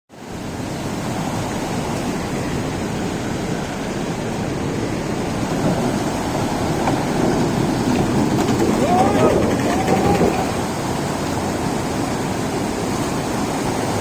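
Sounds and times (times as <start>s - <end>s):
rainwater rushing: 1.0s - 12.7s.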